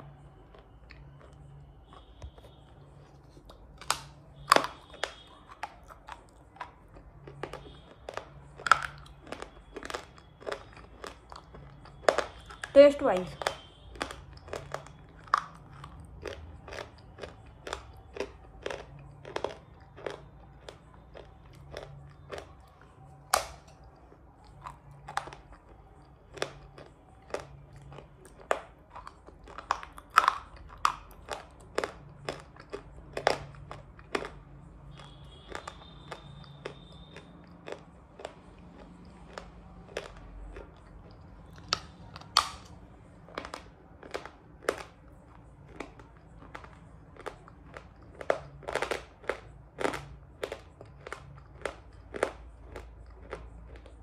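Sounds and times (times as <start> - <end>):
shale crunching while chewed: 0.0 - 54.0.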